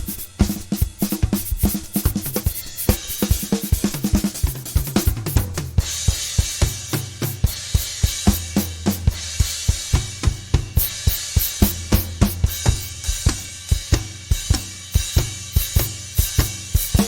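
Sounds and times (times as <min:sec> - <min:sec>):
drum kit fast beat: 0:00.0 - 0:17.0
hi-hat and cymbals ringing: 0:00.0 - 0:17.0.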